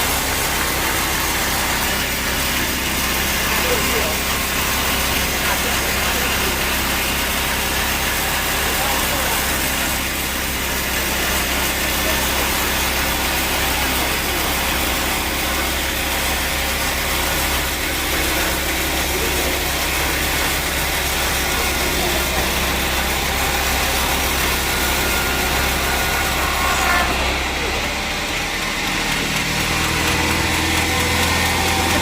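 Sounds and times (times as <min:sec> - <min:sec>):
sawmill machinery running: 0:00.0 - 0:32.0.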